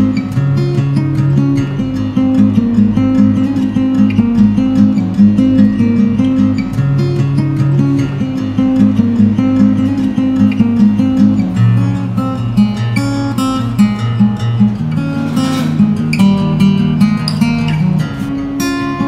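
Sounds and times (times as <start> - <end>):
guitar music: 0.0 - 19.0.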